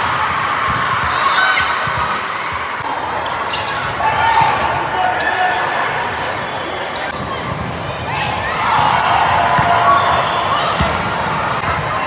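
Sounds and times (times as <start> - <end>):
crowd shouting and cheering: 0.0 - 12.0.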